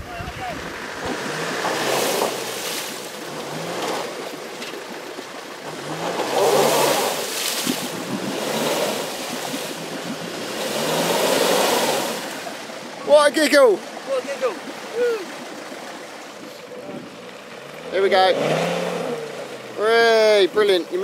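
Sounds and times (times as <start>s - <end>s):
off-road vehicle engine revving: 0.0s - 21.0s
water churning: 0.0s - 21.0s.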